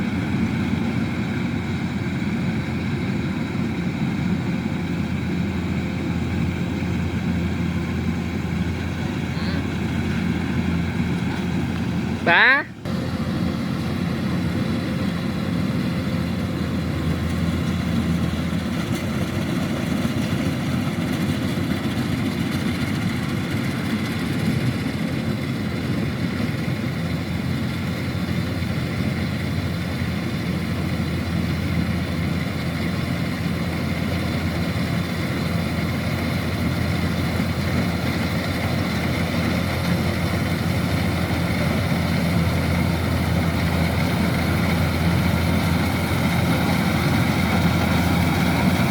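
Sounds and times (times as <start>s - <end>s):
combine harvester diesel engine running: 0.0s - 48.9s.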